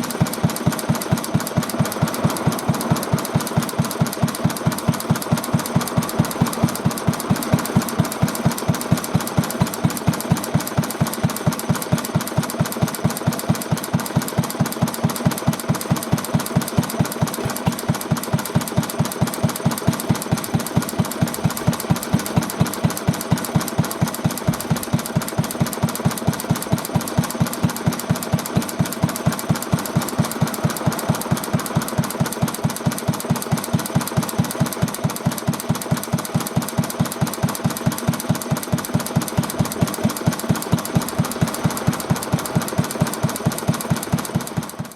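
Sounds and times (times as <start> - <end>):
single-cylinder engine running: 0.0 - 44.9.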